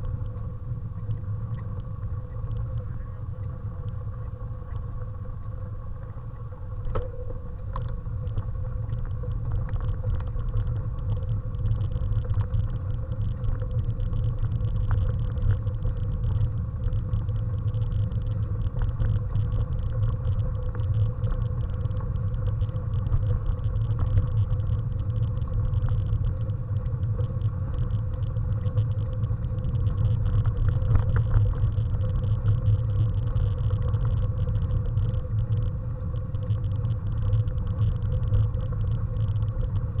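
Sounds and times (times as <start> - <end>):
bicycle rolling on dirt path: 0.0 - 40.0.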